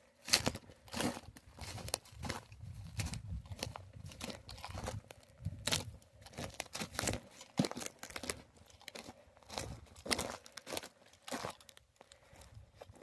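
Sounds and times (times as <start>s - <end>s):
footsteps crunching on rough ground: 0.0s - 13.0s.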